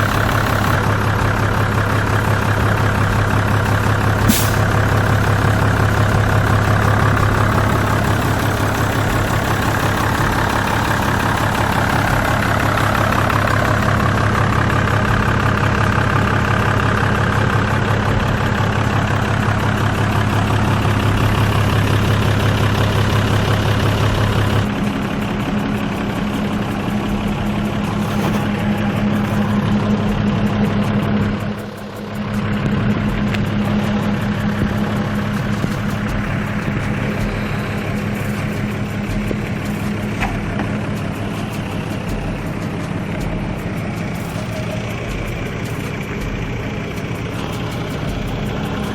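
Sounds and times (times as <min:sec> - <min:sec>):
truck diesel engine idling: 0:00.0 - 0:48.9.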